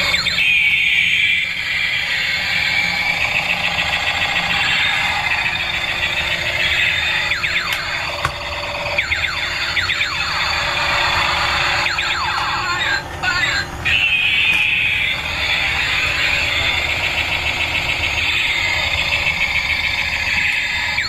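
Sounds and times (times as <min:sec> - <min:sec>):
high wavering tone: 0:00.0 - 0:13.0, 0:13.8 - 0:21.0
sweeping electronic whoops: 0:00.0 - 0:13.0, 0:13.8 - 0:21.0
electronic toy siren: 0:00.0 - 0:21.0.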